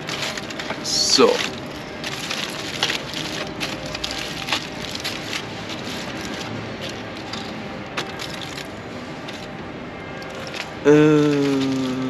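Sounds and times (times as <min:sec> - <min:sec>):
aluminium foil crinkling: 0:00.0 - 0:09.6, 0:10.2 - 0:12.0.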